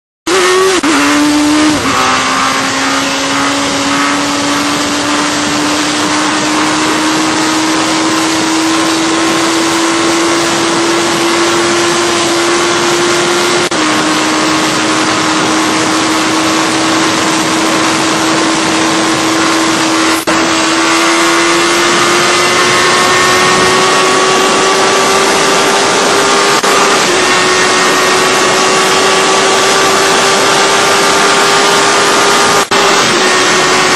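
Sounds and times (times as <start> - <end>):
motorcycle engine at high revs: 0.3 - 33.9
wind rush on microphone: 0.3 - 33.9.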